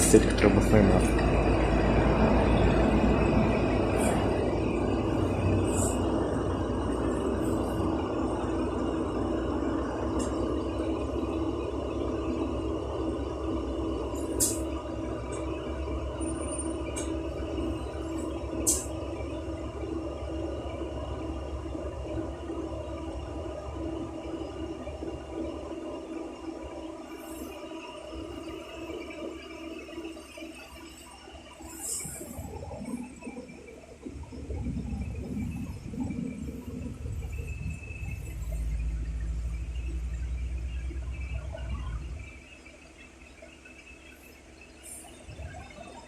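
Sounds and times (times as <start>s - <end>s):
bus drive rumble: 0.0s - 46.0s.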